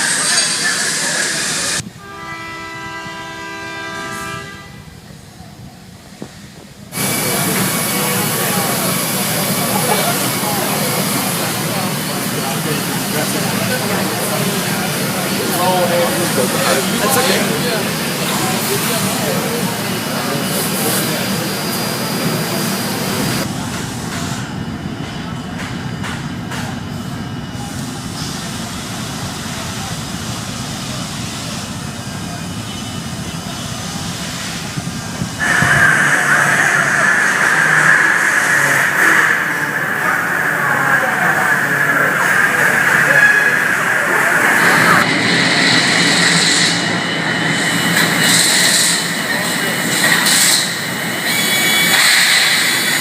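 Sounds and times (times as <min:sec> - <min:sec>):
machinery hiss with high whine: 0:00.0 - 0:01.8, 0:06.1 - 0:25.4, 0:27.0 - 0:53.0
loud steady rushing noise: 0:06.1 - 0:53.0.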